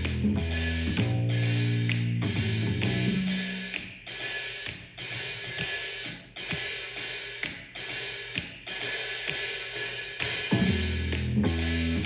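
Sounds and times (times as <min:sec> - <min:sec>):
cymbal and hi-hat hits: 0:00.0 - 0:12.0
instrumental music through laptop speakers: 0:00.0 - 0:12.0.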